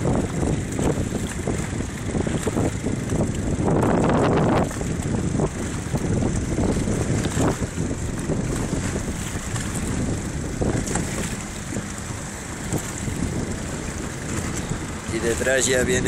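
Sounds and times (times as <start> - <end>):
choppy sea: 0.0 - 16.0
strong wind on microphone: 0.0 - 16.0.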